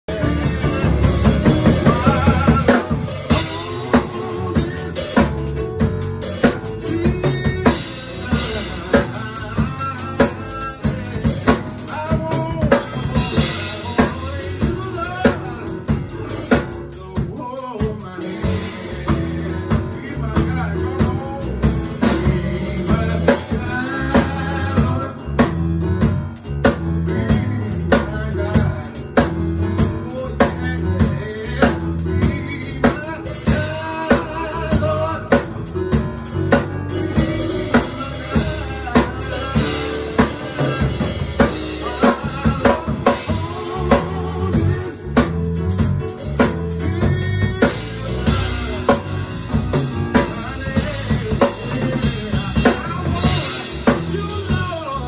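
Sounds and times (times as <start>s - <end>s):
drums keeping a beat: 0.0s - 55.0s
keyboard playing: 0.0s - 55.0s
man singing: 0.0s - 55.0s.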